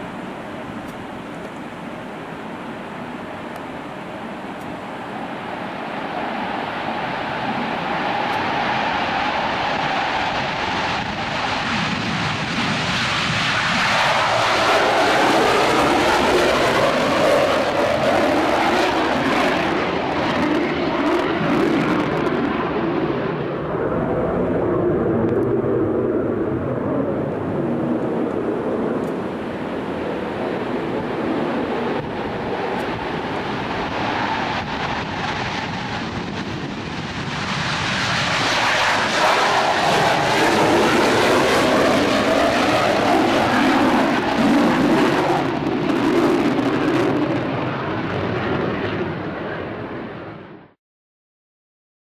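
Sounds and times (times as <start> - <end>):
jet engines in afterburner: 0.0 - 50.8.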